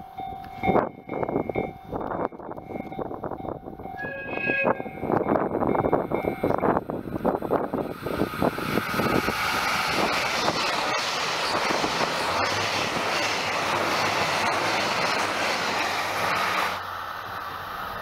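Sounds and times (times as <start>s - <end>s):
train approaching: 0.0s - 18.0s
train passing at speed: 0.0s - 18.0s.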